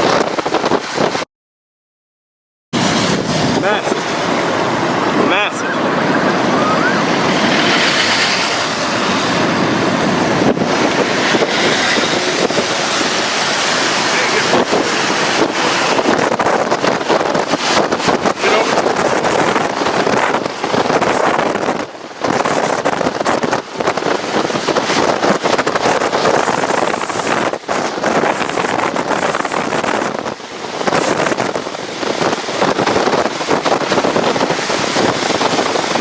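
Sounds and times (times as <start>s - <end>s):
strong wind buffeting microphone: 0.0s - 1.3s, 2.8s - 36.0s.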